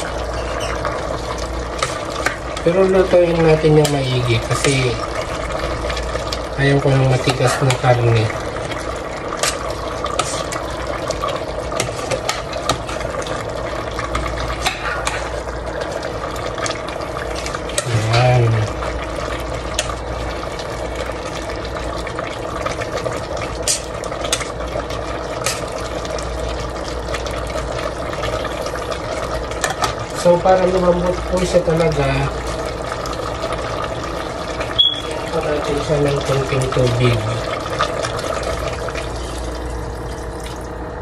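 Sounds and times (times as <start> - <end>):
steady background hum: 0.0 - 41.0.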